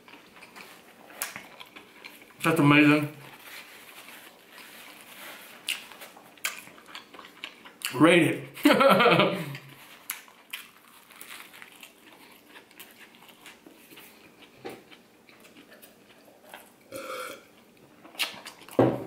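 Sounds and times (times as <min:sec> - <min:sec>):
chewing and crunching: 0:00.0 - 0:02.4, 0:03.2 - 0:08.0, 0:09.6 - 0:16.9, 0:17.5 - 0:18.8.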